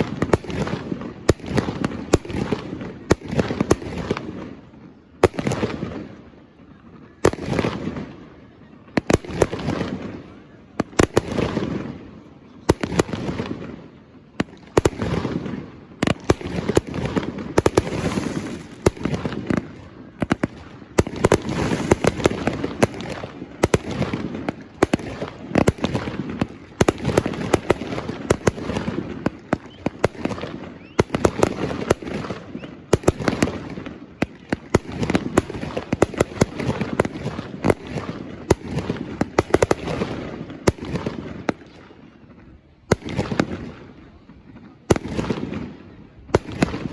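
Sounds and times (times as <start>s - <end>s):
fireworks bangs and crackles: 0.0s - 46.9s
fireworks rolling rumble: 0.0s - 46.9s.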